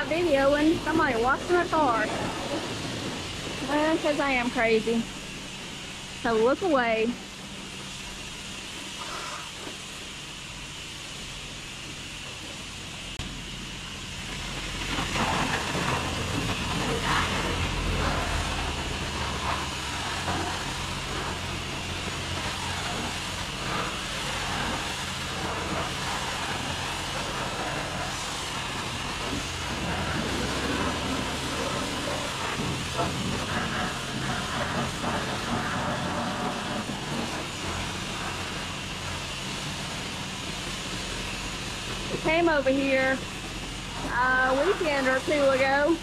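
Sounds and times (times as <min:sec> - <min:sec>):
high-pressure water spray hissing: 0:00.0 - 0:46.0.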